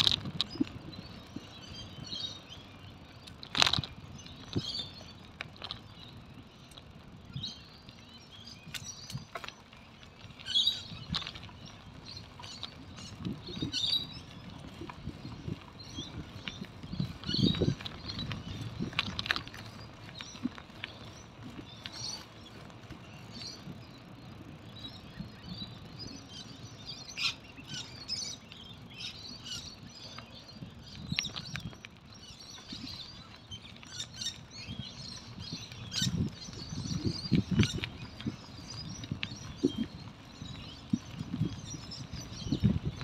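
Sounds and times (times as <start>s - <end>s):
bicycle knocking and rattling: 0.0s - 43.0s
birds chirping: 0.0s - 43.0s.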